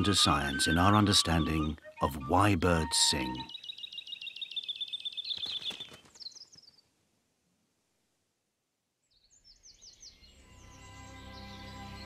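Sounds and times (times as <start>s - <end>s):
songbird singing trills: 0.0s - 6.9s, 9.1s - 12.0s.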